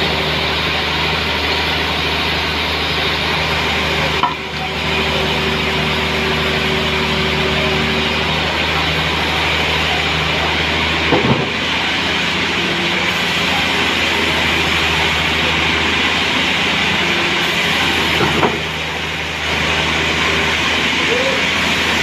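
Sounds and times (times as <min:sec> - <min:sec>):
sawmill cutting log: 0:00.0 - 0:22.0.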